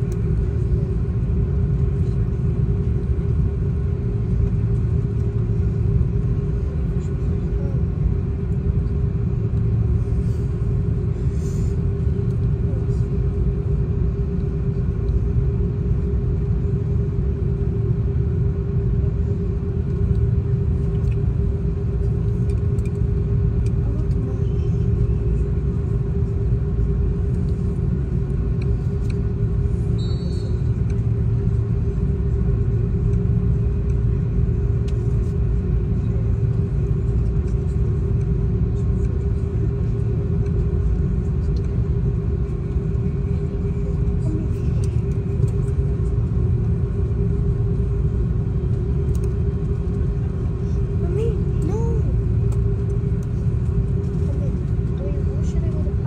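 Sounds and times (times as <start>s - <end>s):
constant cabin hum: 0.0s - 56.0s
jet engines idling rumble: 0.0s - 56.0s.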